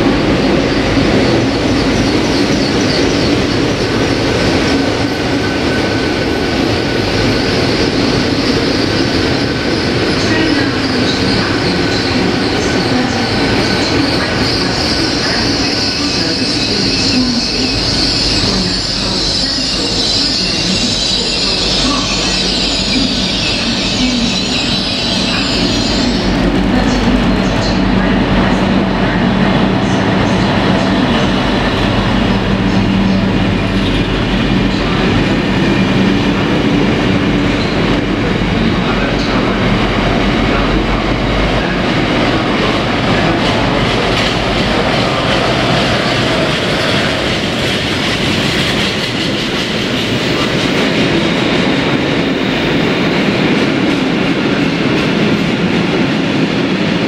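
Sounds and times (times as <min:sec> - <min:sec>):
diesel train engine: 0:00.0 - 0:57.0
train wheels rolling on rails: 0:00.0 - 0:57.0.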